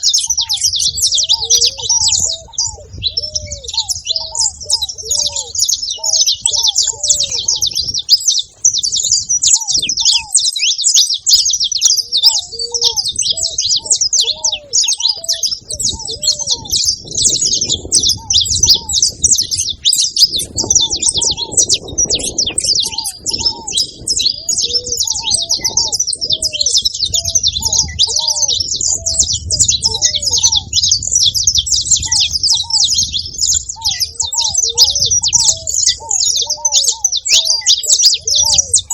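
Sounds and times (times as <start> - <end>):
dove cooing: 0.0 - 38.9
finches twittering: 0.0 - 38.9.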